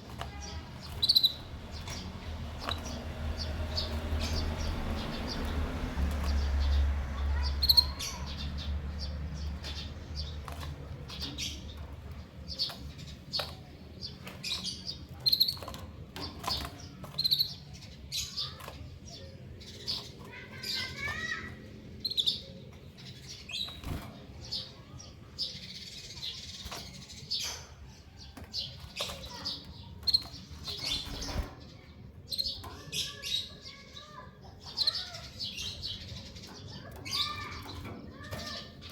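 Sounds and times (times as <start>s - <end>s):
birds chirping: 0.0s - 38.9s
birds hopping on perches: 0.0s - 38.9s
soft bird twittering: 0.2s - 38.9s.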